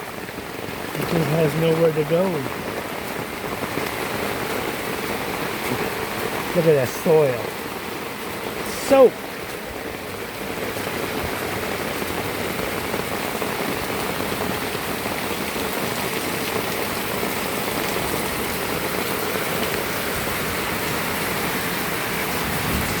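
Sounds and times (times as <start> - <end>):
heavy rain downpour: 0.0 - 23.0.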